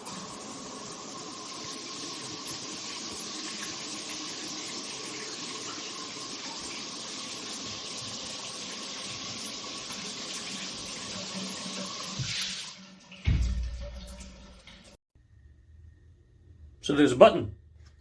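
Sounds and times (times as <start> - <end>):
water spraying from shower head: 0.0 - 15.0.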